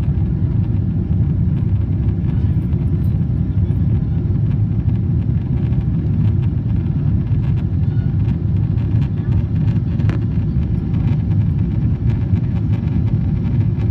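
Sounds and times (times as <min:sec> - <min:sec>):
jet engines rumbling in cabin: 0:00.0 - 0:13.9.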